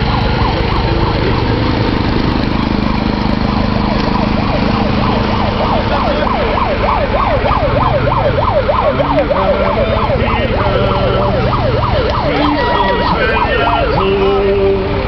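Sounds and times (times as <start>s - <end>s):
tractor diesel engine running: 0.0s - 15.0s
yelping siren: 0.0s - 15.0s.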